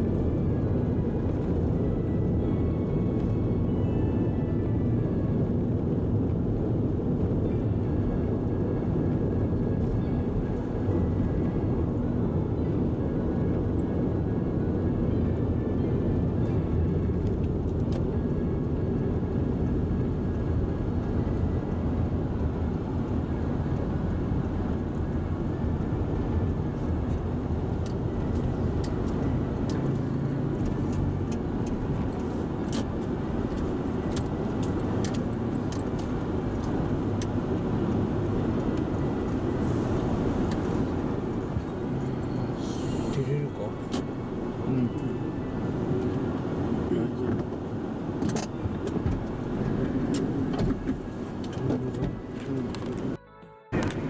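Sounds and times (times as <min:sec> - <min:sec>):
car rumble: 0:00.0 - 0:54.0.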